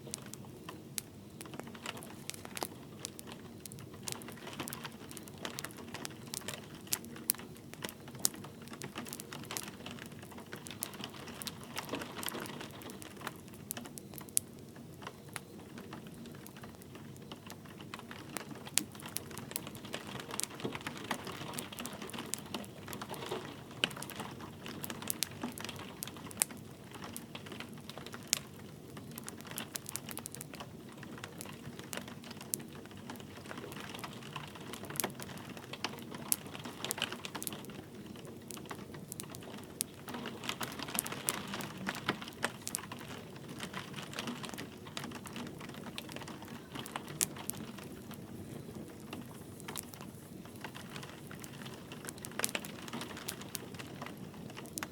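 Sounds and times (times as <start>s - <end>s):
light rain pattering: 0.0s - 54.9s
wood fire crackling and popping: 0.0s - 54.9s.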